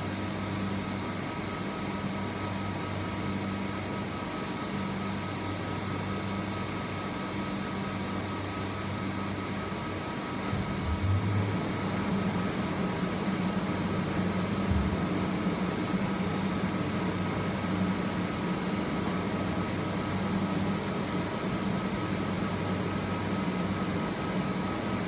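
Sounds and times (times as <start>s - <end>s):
machine hum with high whine: 0.0s - 25.0s.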